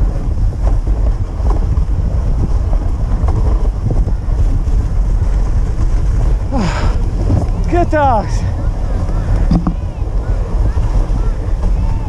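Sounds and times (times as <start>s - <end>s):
sled running on snow: 0.0s - 12.0s
wind buffeting microphone: 0.0s - 12.0s.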